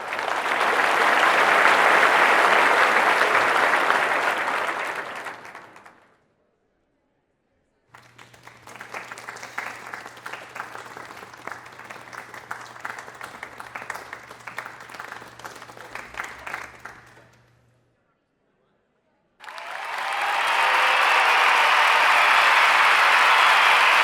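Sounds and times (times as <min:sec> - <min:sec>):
audience applauding: 0:00.0 - 0:06.0, 0:08.0 - 0:17.4, 0:19.4 - 0:24.0.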